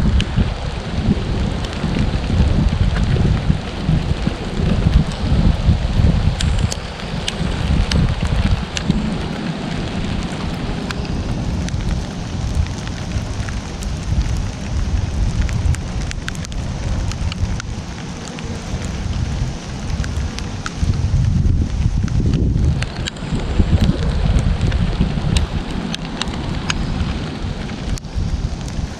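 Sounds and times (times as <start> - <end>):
low rumble: 0.0 - 28.9
raindrop ticks close by: 0.0 - 28.9
steady rain falling: 0.0 - 28.9.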